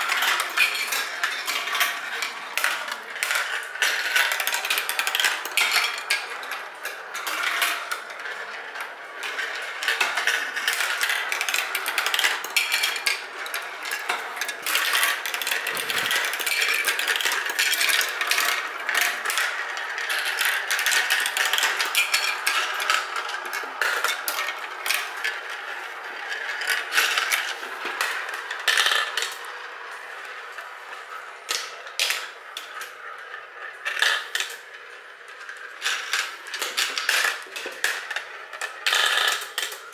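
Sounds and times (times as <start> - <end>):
marbles rattling down plastic track: 0.0 - 39.9.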